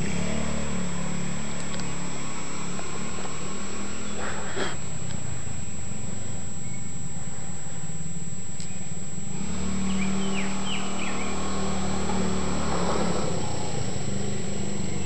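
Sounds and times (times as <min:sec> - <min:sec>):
small four-stroke engine running: 0:00.0 - 0:15.0.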